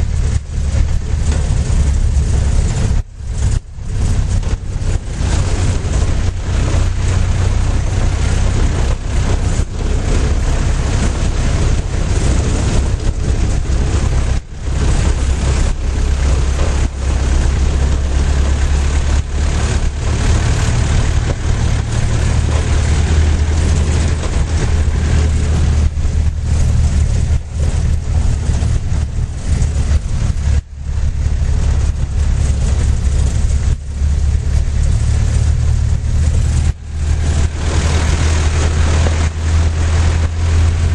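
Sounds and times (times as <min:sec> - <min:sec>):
road noise on dirt road: 0:00.0 - 0:40.9
vehicle engine running: 0:00.0 - 0:40.9.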